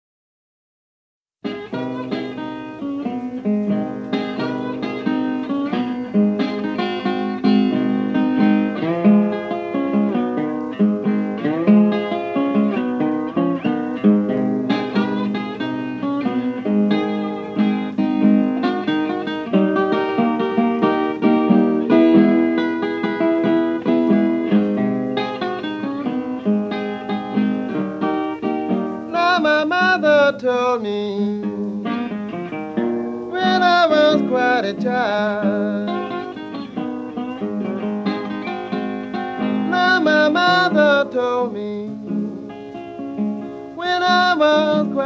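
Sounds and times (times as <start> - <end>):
blues slide guitar: 1.5 - 45.0.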